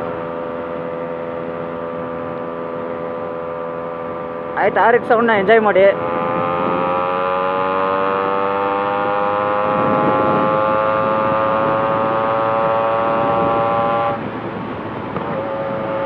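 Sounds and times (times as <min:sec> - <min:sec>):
two-stroke motorcycle engine: 0:00.0 - 0:16.0.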